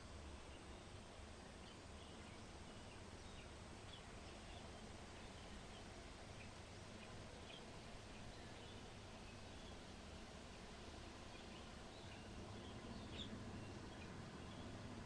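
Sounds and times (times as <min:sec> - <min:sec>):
low outdoor rumble: 0:00.0 - 0:15.0
small birds chirping: 0:01.5 - 0:09.9, 0:11.2 - 0:15.0.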